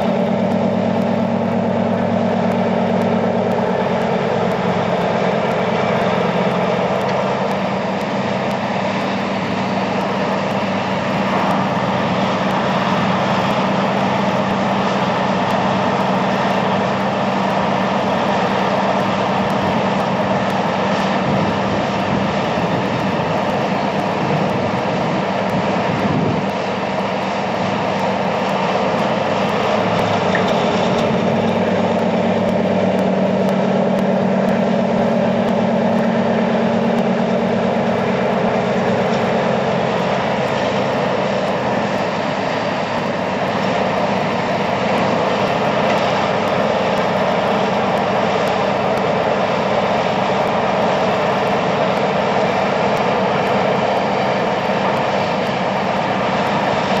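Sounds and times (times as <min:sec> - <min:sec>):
simulated diesel engine: 0:00.0 - 0:57.0.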